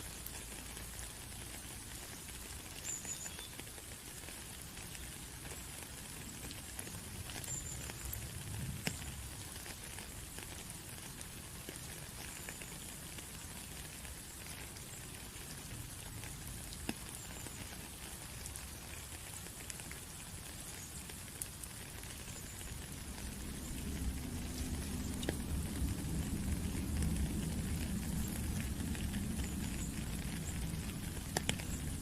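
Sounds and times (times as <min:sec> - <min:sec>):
rain pattering: 0:00.0 - 0:32.0
sharp water drips: 0:00.0 - 0:32.0.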